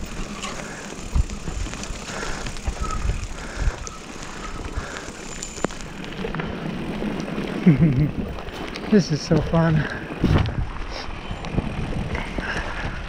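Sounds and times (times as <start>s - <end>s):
bike rattling over bumps: 0.0s - 13.0s
bike tyres on dirt: 0.0s - 13.0s.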